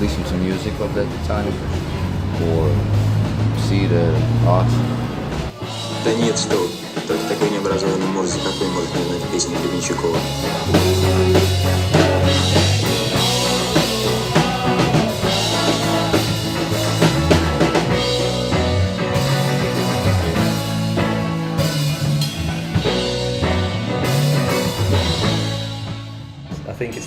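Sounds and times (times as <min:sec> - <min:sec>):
bass line: 0:00.0 - 0:27.0
rock band playing: 0:00.0 - 0:27.0
drum hits: 0:01.2 - 0:26.3.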